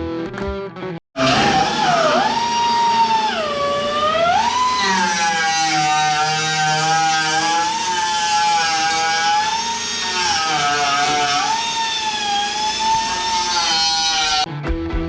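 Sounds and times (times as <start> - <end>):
power tool motor whining: 1.2 - 14.5.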